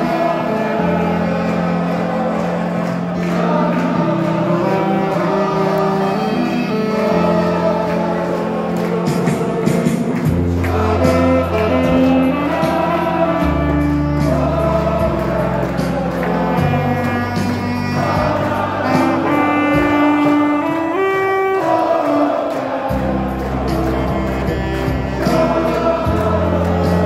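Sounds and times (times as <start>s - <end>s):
saxophone melody: 0.0s - 27.0s.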